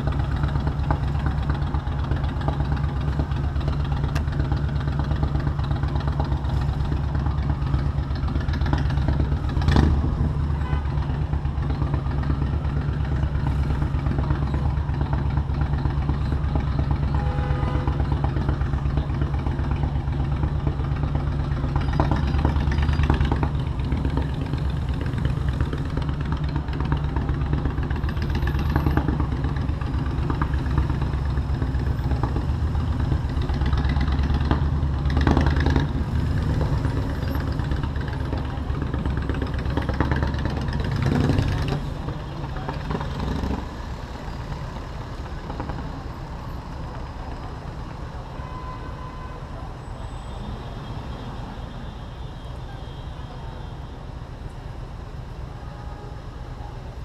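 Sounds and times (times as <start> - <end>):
city traffic noise: 0.0 - 57.0.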